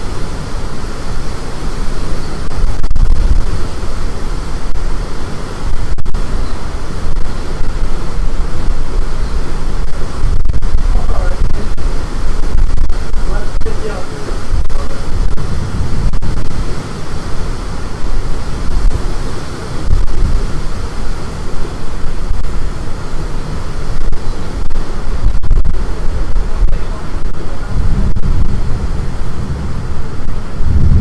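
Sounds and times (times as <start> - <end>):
rough water washing: 0.0 - 31.0
wind buffeting microphone: 0.0 - 31.0.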